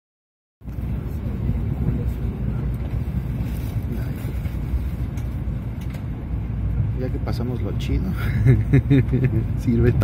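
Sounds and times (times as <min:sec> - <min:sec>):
train rumble: 0:00.6 - 0:10.0.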